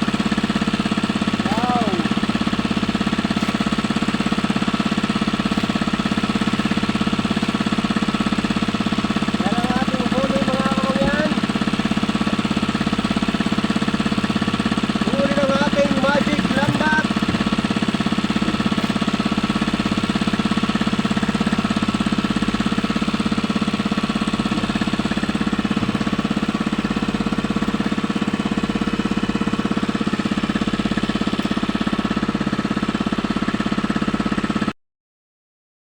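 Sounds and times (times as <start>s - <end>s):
small engine running: 0.0s - 34.7s.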